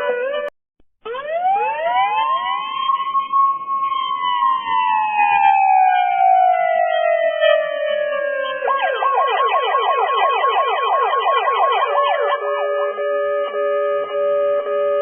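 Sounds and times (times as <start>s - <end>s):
police siren: 0.0s - 15.0s.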